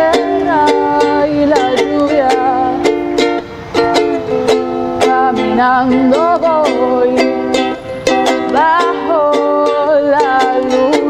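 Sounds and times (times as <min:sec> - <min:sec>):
ukulele strumming chords: 0:00.0 - 0:11.0
young woman singing: 0:00.0 - 0:11.0.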